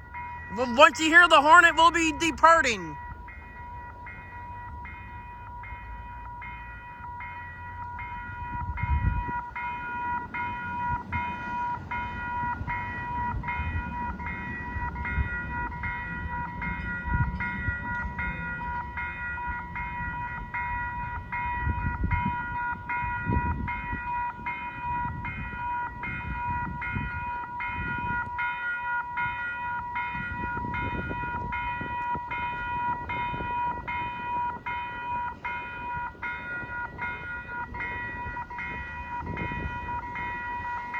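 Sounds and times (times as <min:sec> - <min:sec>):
crossing warning bell ringing: 0:00.0 - 0:40.9.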